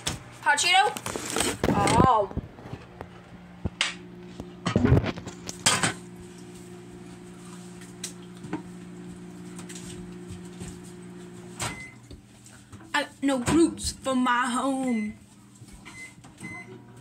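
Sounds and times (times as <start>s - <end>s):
kitchen appliance hum: 0.0s - 17.0s.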